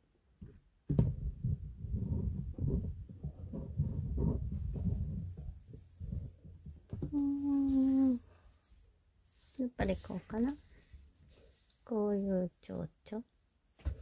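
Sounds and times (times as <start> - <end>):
fabric and paper rubbing on table: 1.4 - 12.8.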